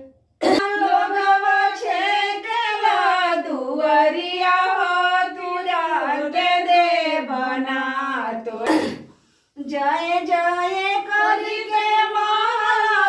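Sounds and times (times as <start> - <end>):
women singing unaccompanied: 0.0 - 13.0.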